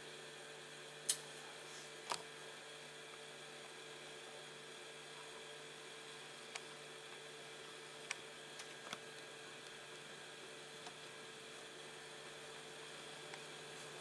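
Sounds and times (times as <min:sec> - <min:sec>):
blower fan humming: 0:00.0 - 0:14.0.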